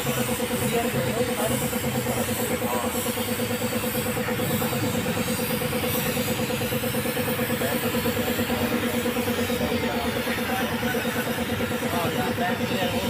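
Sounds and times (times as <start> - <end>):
air compressor humming: 0.0 - 13.0
spray gun air hissing: 0.0 - 13.0.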